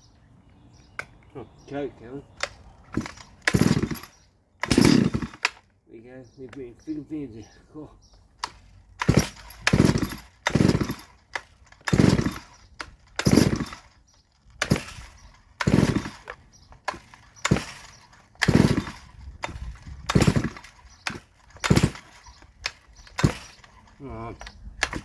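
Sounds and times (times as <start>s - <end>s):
chainsaw pull-start cranking: 2.3s - 5.8s, 8.2s - 25.0s.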